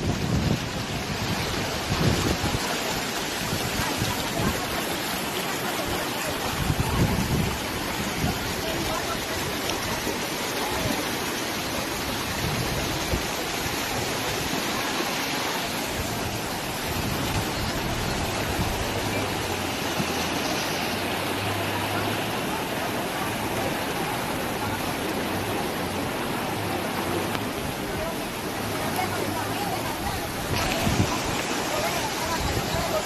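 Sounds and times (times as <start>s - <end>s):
floodwater rushing: 0.0s - 33.0s.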